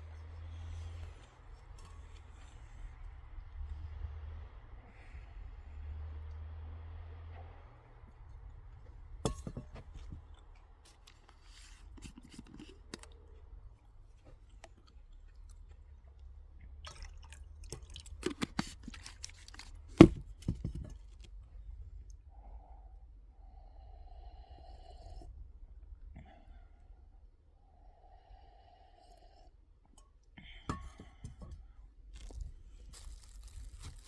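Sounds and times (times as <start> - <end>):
faint low rumble: 0.0 - 18.2, 19.5 - 34.0.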